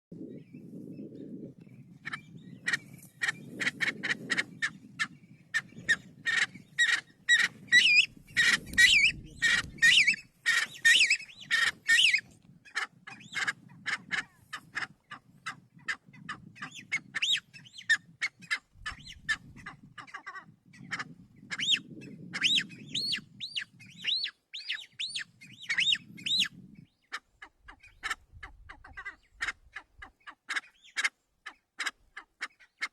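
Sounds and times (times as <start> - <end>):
pheasant clucking: 2.0 - 32.9.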